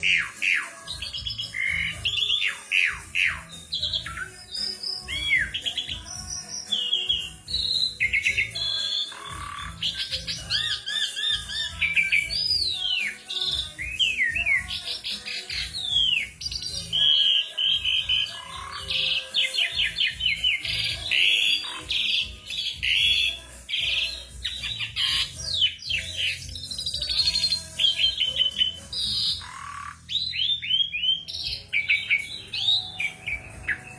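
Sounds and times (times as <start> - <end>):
starling singing: 0.0 - 33.9.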